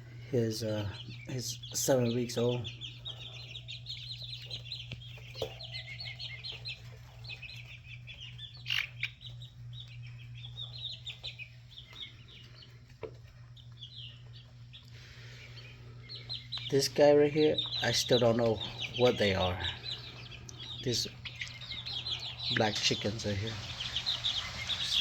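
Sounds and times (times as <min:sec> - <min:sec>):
chicks peeping and chirping: 0:00.0 - 0:25.0
steady low hum: 0:00.0 - 0:25.0.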